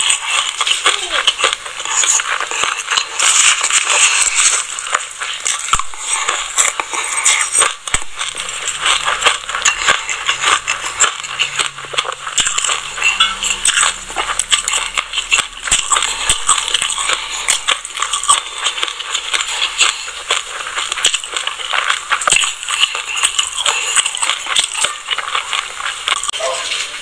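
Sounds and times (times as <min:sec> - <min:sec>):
chewing crunchy seeds: 0:00.0 - 0:27.0.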